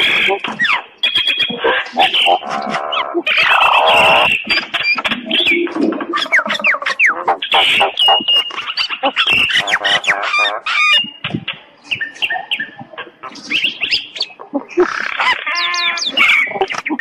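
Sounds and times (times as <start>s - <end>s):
myna calling and singing: 0.0s - 17.0s.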